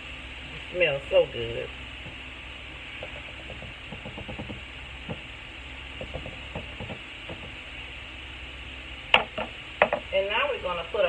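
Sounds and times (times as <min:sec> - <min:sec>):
onions sizzling: 0:00.0 - 0:11.0.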